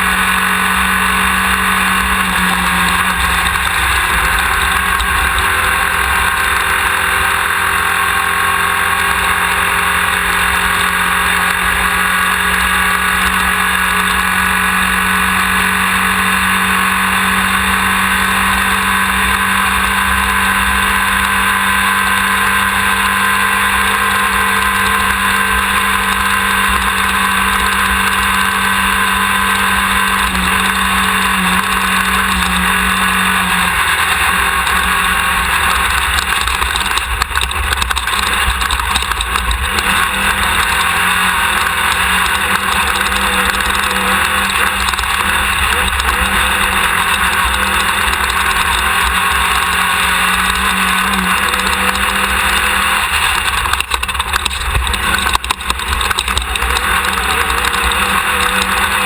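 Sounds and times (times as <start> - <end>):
drivetrain and terrain rush: 0.0 - 59.0
race car engine running hard: 0.0 - 59.0.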